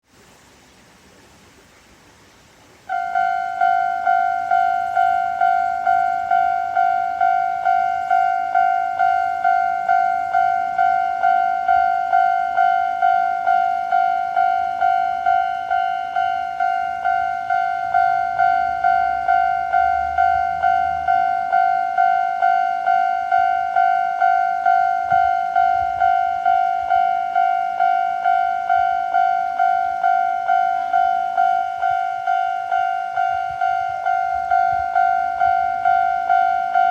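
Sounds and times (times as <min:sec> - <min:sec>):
level-crossing warning alarm: 0:02.9 - 0:36.9.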